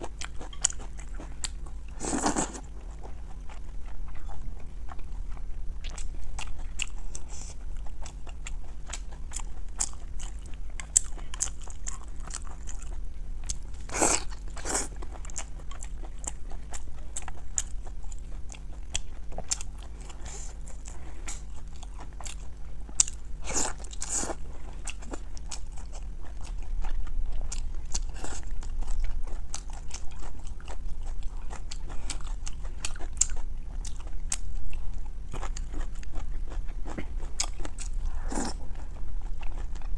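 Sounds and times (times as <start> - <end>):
wet chewing and mouth clicks: 0.0 - 39.9.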